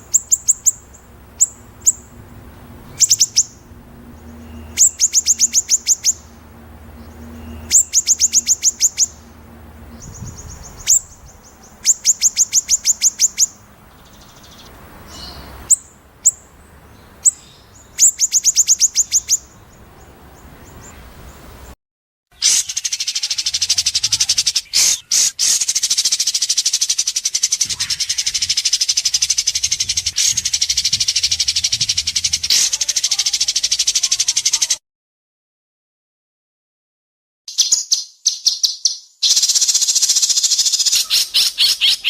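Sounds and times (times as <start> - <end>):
bird piercing song: 0.0 - 2.1, 2.8 - 6.4, 7.0 - 9.3, 9.9 - 21.4, 22.4 - 34.8, 37.5 - 42.0.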